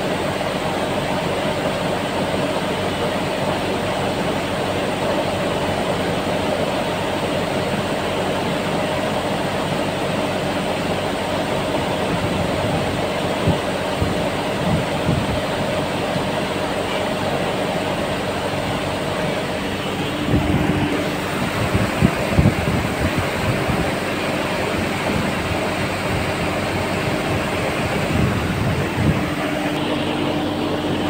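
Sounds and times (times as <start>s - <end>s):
cooling tower rush and hum: 0.0s - 31.0s.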